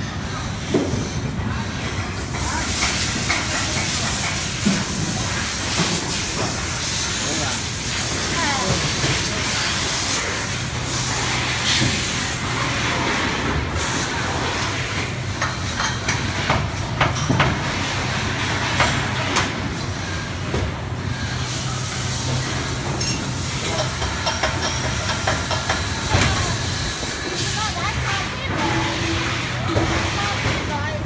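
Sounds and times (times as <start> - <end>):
workshop machinery hiss and hum: 0.0 - 31.0.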